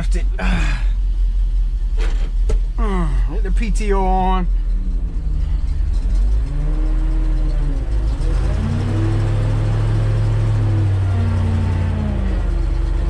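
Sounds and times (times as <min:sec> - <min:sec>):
truck engine revving: 0:01.6 - 0:13.0.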